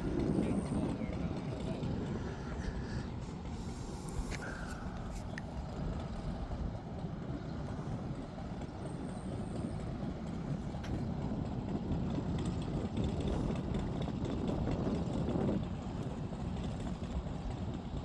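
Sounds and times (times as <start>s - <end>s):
low vehicle rumble: 0.0s - 17.9s.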